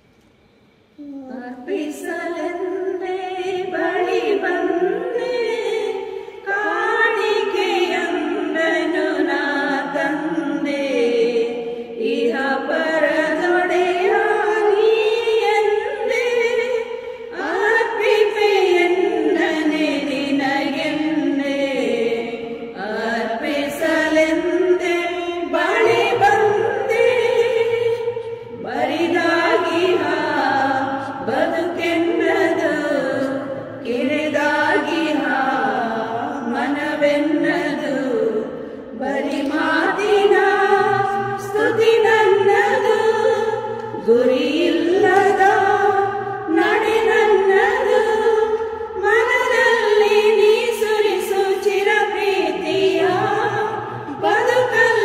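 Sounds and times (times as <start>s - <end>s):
women's choir singing a hymn: 1.4s - 55.0s.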